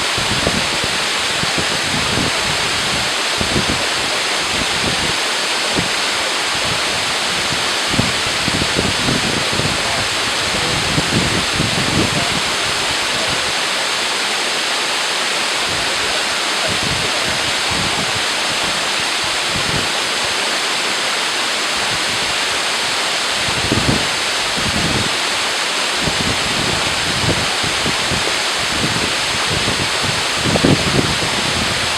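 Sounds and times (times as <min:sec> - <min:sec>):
wind rumbling on microphone: 0:00.0 - 0:14.0, 0:15.6 - 0:20.6, 0:21.7 - 0:31.9
waterfall roaring: 0:00.0 - 0:31.9.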